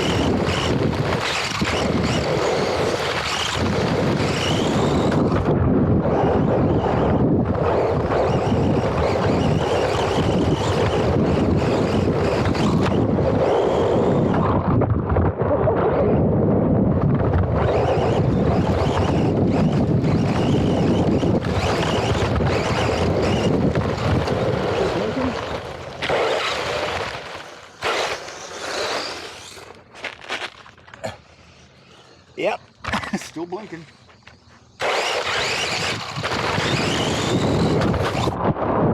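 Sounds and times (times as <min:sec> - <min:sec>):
wind on microphone: 0:00.0 - 0:29.5, 0:34.8 - 0:38.9
rc car rumbling over dirt: 0:00.0 - 0:38.9.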